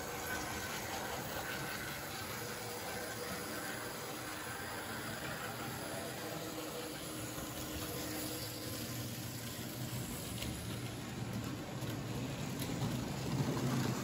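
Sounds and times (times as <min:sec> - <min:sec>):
model train motors humming: 0:00.0 - 0:14.0
wheels rolling over track: 0:00.0 - 0:14.0.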